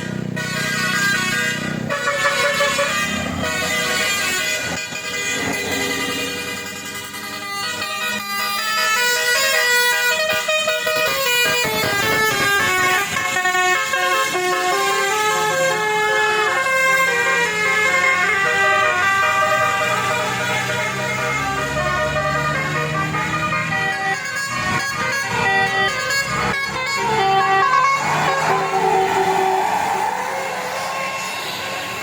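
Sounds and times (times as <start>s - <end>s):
multi-tone vehicle horn melody: 0.0s - 32.0s.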